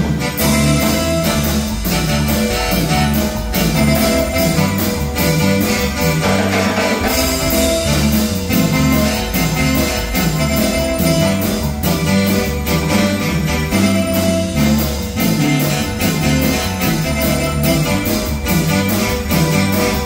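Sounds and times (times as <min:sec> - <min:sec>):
marimba band dance music: 0:00.0 - 0:20.0.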